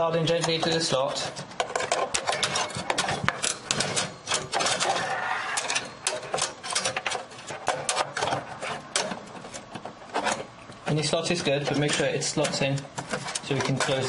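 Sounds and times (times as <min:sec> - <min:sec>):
expansion card clicking and scraping: 0:00.3 - 0:14.0.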